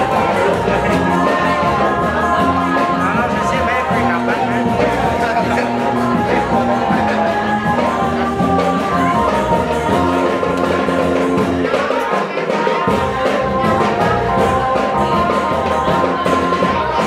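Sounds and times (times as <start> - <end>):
music with held melody notes: 0.0 - 17.0.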